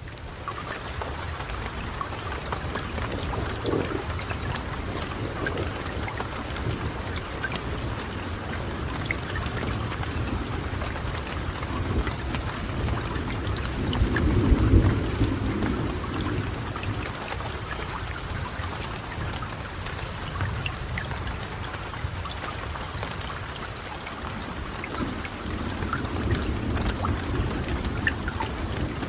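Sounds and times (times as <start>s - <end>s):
low rumble of thunder: 0.0s - 29.0s
raindrops ticking: 0.0s - 29.0s
steady rain: 0.0s - 29.0s.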